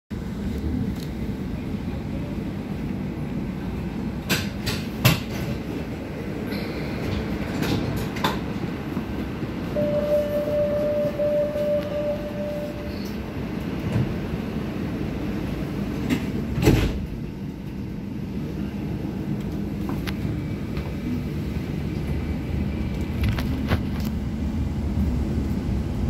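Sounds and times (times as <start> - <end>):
metro train rumble: 0.1 - 26.0
train whine: 0.2 - 26.0.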